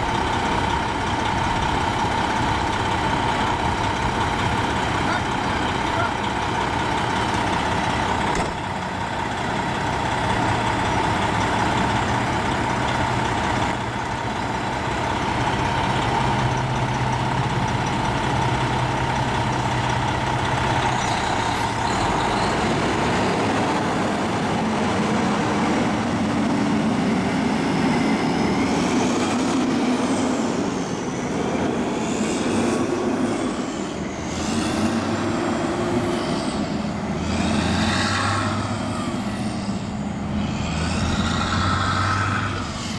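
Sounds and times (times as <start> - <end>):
diesel truck engine: 0.0 - 42.9.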